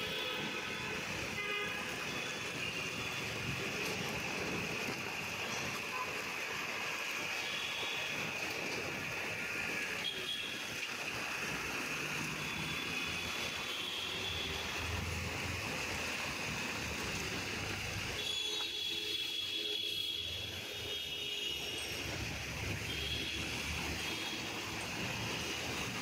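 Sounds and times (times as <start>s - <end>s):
traffic on wet street: 0.0s - 26.0s.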